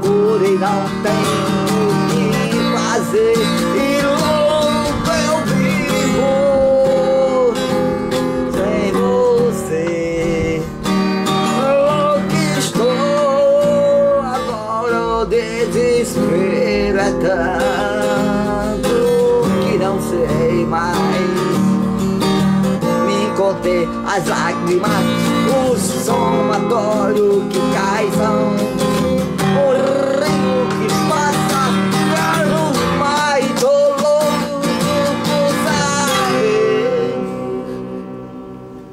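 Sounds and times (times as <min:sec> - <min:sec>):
strummed acoustic guitar: 0:00.0 - 0:38.9.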